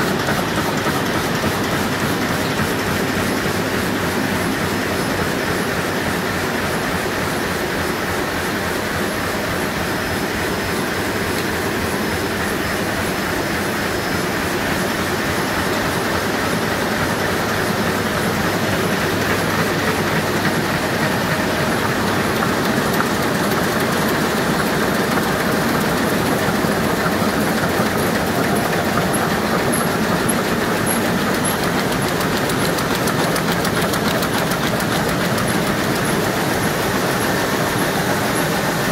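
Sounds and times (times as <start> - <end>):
printing press rattling: 0.0 - 38.9.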